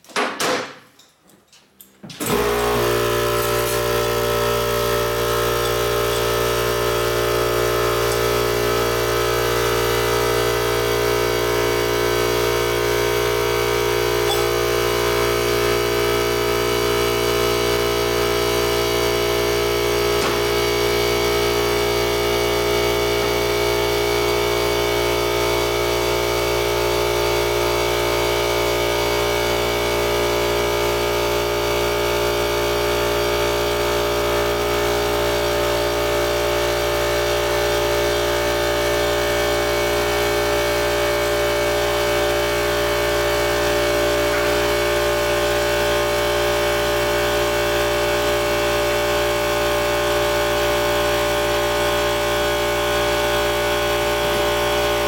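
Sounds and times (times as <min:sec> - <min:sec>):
air compressor motor running: 0:02.2 - 0:55.0.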